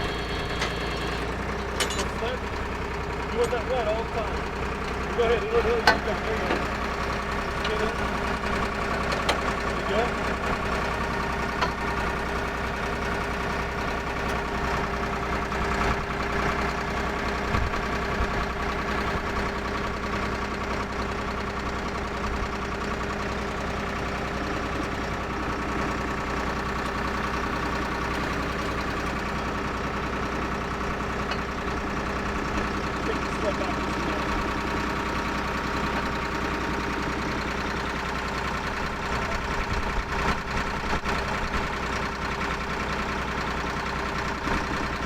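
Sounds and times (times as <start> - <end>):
drill rig engine running: 0.0 - 45.0.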